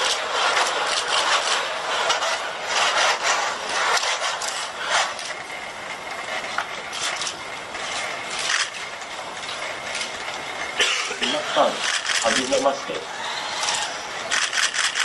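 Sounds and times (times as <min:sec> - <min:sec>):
robot joint motors whirring: 0:00.0 - 0:10.8, 0:11.8 - 0:15.0.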